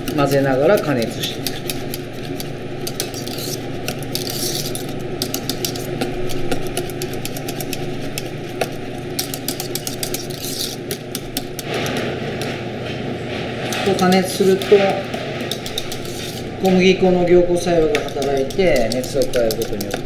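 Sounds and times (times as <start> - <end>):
whisk tapping and scraping pan: 0.0 - 12.5, 13.7 - 16.8, 17.6 - 20.0.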